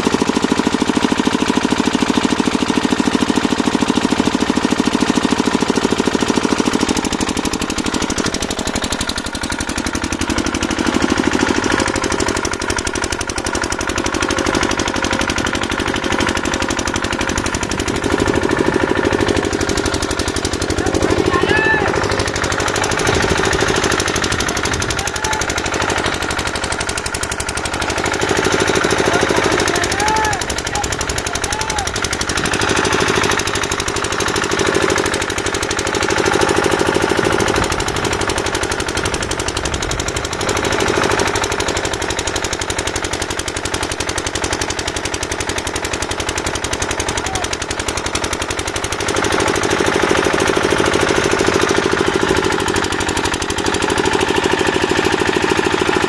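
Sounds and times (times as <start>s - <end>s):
construction equipment clatter: 0.0s - 56.0s
motor hum: 0.0s - 56.0s.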